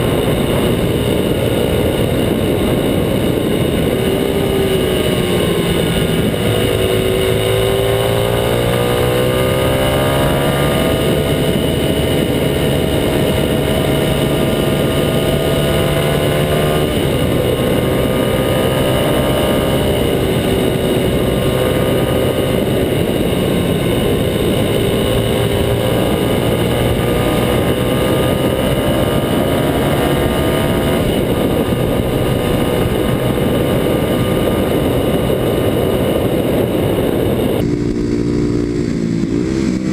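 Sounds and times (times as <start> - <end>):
motorcycle engine at road speed: 0.0 - 39.9
wind rushing: 0.0 - 39.9.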